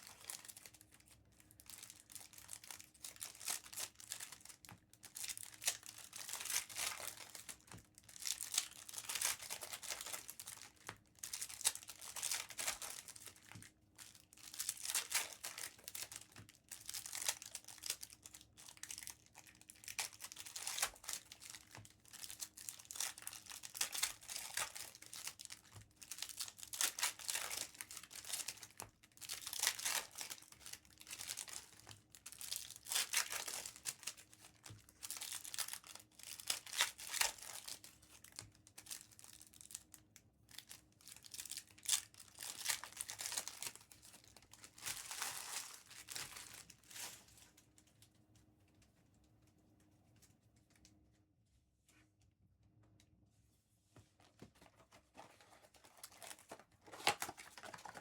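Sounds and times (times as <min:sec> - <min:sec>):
foil wrappers tearing and crinkling: 0:00.0 - 0:39.9, 0:40.5 - 0:47.5, 0:54.7 - 0:58.0.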